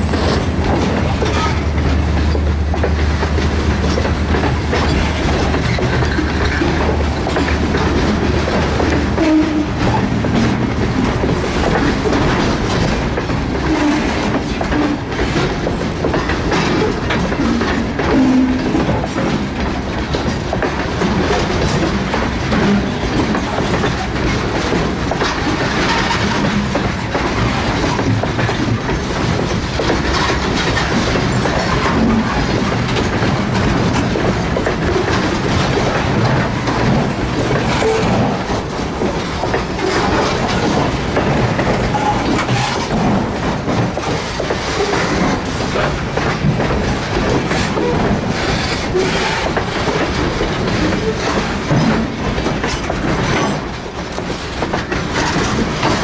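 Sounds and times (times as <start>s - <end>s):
train wheels rumbling on rails: 0.0s - 56.0s
wheels clacking over rail joints: 0.0s - 56.0s.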